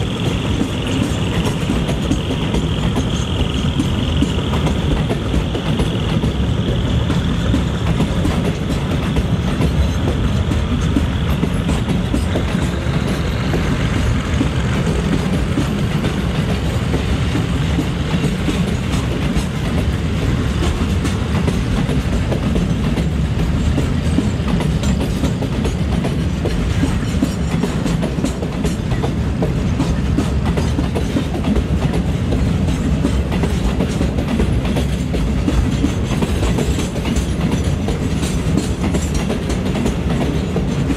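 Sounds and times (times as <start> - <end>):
train wheels rumbling on rail: 0.0 - 40.9
wheels clicking over rail joints: 0.0 - 40.9.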